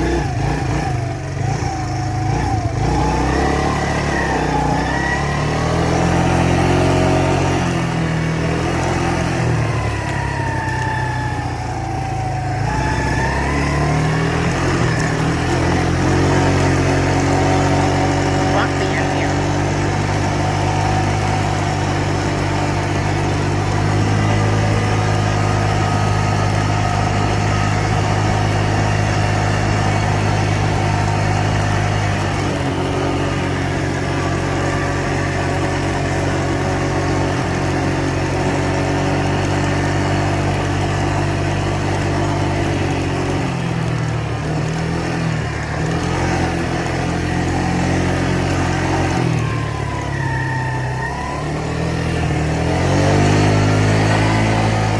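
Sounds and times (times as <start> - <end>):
four-wheeler engine running: 0.0 - 54.9.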